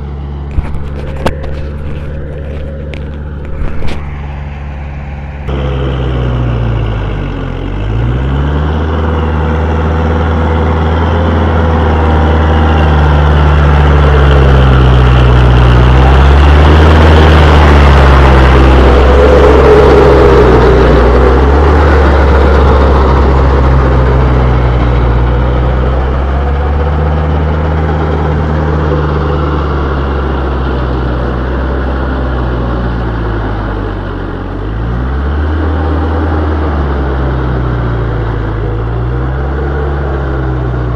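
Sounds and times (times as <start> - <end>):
tractor diesel engine drone: 0.0 - 40.9.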